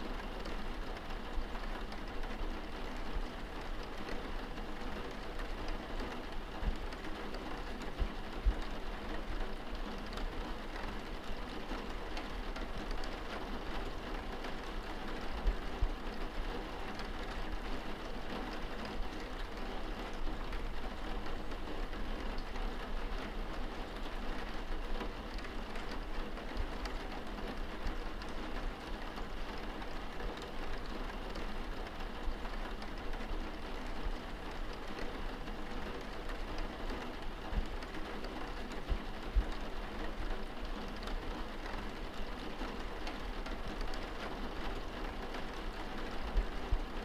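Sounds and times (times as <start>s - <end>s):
rain on a window pane: 0.0s - 47.0s.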